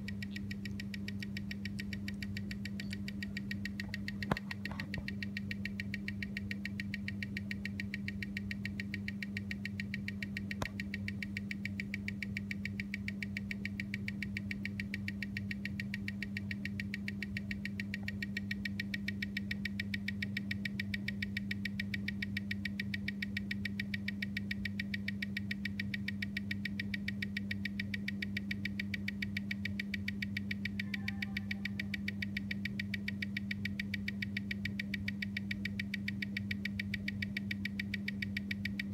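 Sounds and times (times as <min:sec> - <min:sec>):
steady electrical hum: 0:00.0 - 0:38.9
watch ticking fast: 0:00.0 - 0:38.9.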